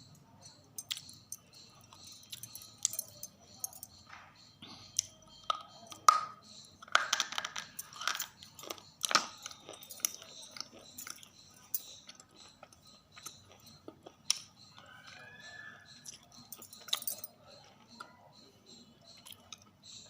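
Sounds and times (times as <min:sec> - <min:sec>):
chewing crunchy food: 0:00.4 - 0:03.2, 0:03.9 - 0:20.0.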